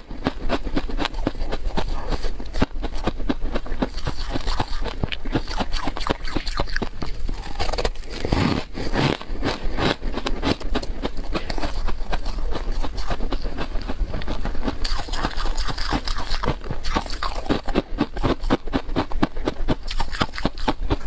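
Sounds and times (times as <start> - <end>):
chewing crispy snack crunches: 0.0 - 21.0.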